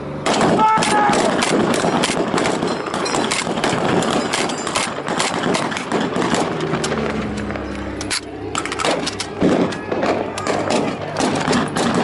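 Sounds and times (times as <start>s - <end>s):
loud engine drone: 0.0s - 12.0s
rapid blank gunfire: 0.2s - 7.1s, 8.8s - 12.0s.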